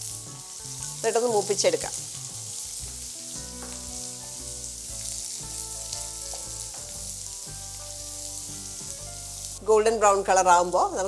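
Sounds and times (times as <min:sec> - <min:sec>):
shallots sizzling in oil: 0:00.0 - 0:11.0.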